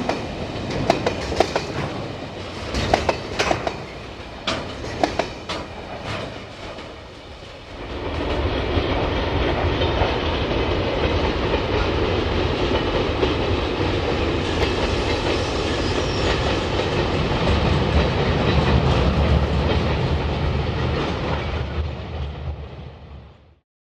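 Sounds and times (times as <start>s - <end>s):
freight train rumbling by: 0.0s - 23.6s.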